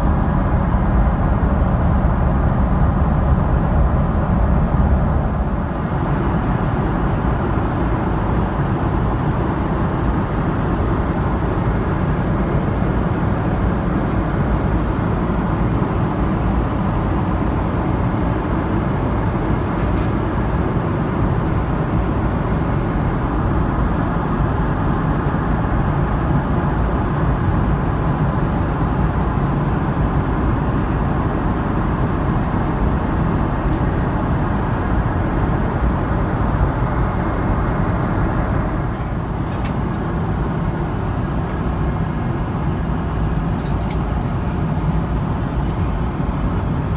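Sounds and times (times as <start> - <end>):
airplane cabin rumble: 0.0 - 46.9.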